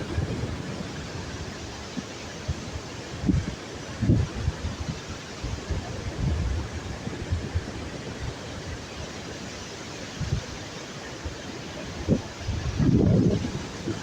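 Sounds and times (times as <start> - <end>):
wind buffeting microphone: 0.0 - 8.9, 11.2 - 14.0
sea waves washing: 0.0 - 14.0.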